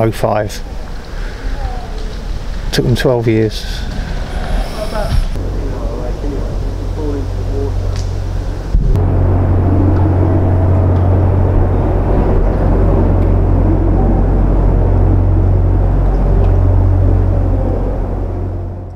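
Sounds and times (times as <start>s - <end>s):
boat engine humming: 0.6s - 18.9s.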